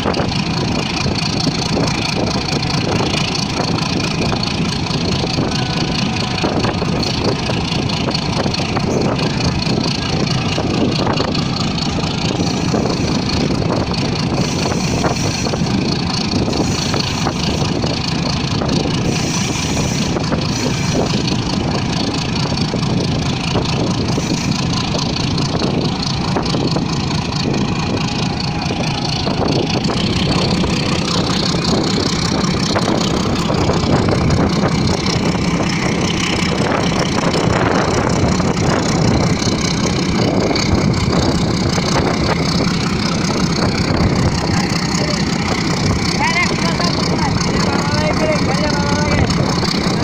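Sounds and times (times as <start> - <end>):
train rumbling: 0.0 - 50.0
wheels rattling on rails: 0.0 - 50.0.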